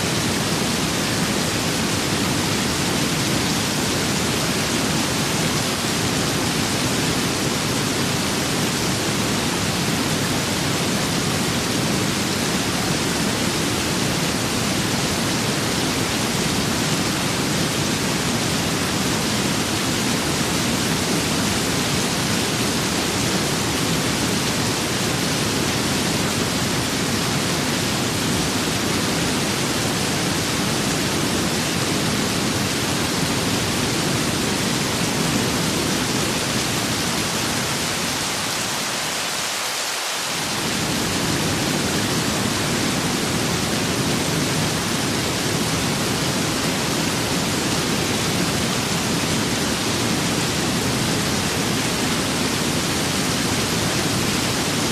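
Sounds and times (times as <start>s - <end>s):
steady rain with wind: 0.0s - 54.9s.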